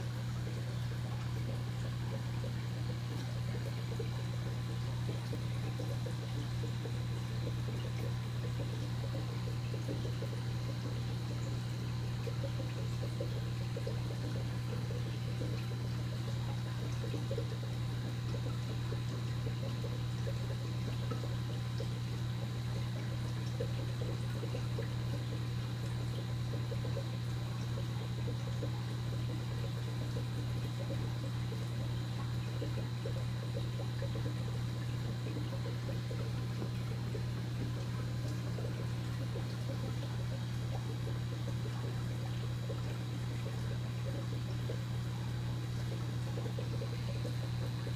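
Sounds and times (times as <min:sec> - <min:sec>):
aquarium pump humming: 0:00.0 - 0:47.9
water trickling: 0:00.0 - 0:47.9.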